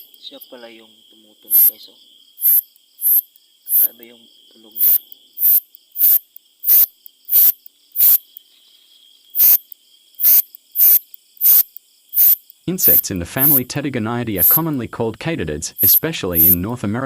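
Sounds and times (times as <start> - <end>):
katydid chirping: 0.0 - 16.8
faint high insect tone: 0.0 - 17.0.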